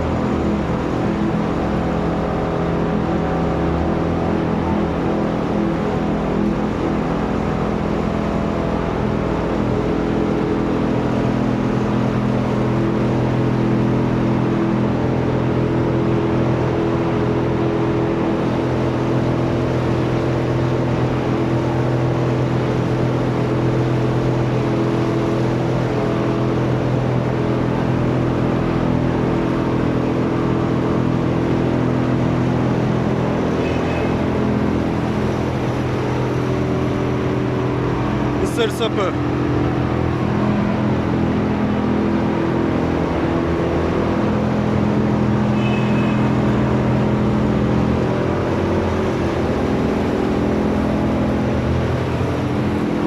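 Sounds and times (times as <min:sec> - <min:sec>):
shredding machine drone: 0:00.0 - 0:53.0.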